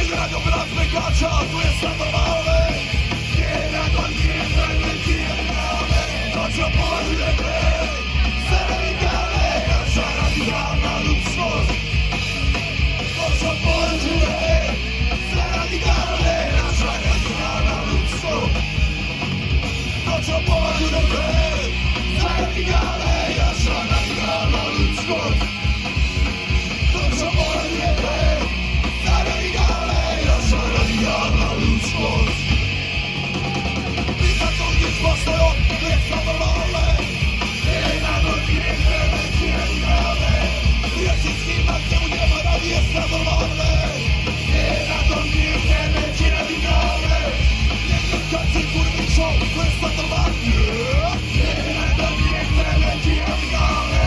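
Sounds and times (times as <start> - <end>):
shouted vocals: 0.0 - 11.8, 13.0 - 19.0, 19.9 - 54.0
bass guitar: 0.0 - 54.0
distorted guitar: 0.0 - 54.0
fast drums: 0.0 - 54.0.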